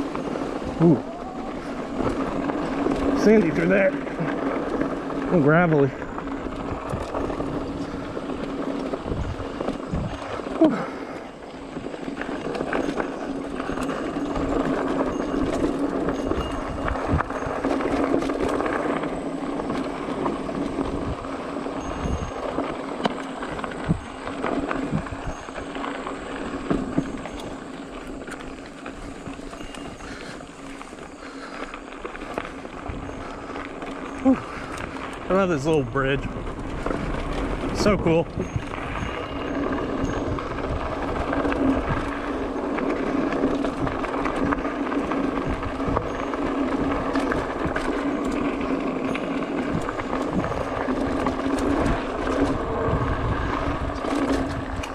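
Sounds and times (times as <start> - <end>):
bike frame rattling: 0.0 - 54.9
tyres crunching over gravel: 0.0 - 54.9.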